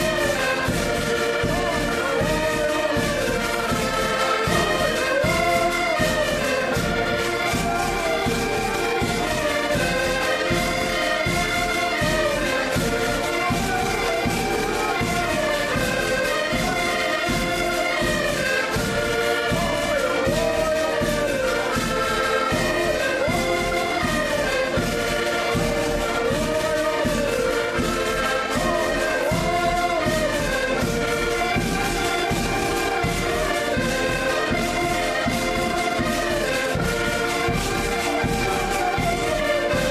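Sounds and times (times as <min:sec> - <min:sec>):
accordions playing folk dance tune: 0:00.0 - 0:39.9.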